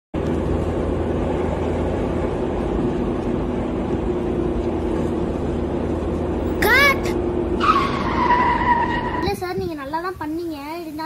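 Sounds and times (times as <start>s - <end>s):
car engine running: 0.2s - 9.2s.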